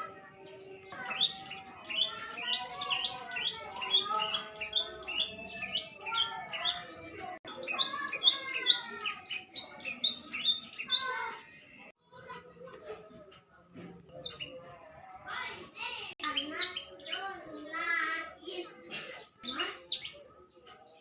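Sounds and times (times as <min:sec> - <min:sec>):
bird chirping and warbling: 0:00.0 - 0:12.5, 0:14.0 - 0:21.0.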